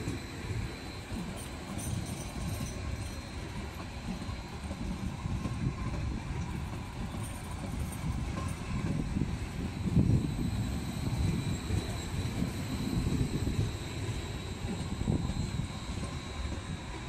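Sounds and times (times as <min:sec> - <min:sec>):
faint high whine: 0:00.0 - 0:17.0
train wheels rumbling on rail: 0:00.0 - 0:17.0.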